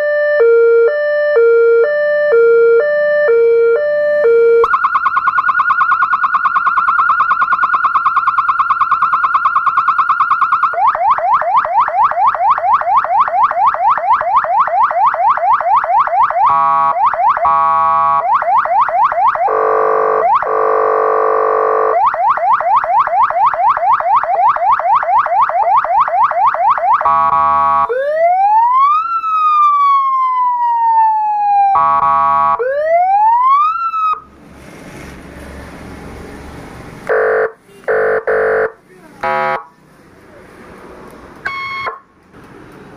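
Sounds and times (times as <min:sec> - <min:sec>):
electronic siren changing tones: 0:00.0 - 0:34.4, 0:37.1 - 0:39.7, 0:41.4 - 0:42.1.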